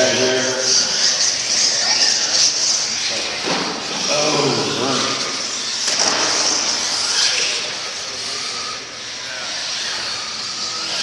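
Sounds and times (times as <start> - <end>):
monster truck engine running hard: 0.0 - 11.0.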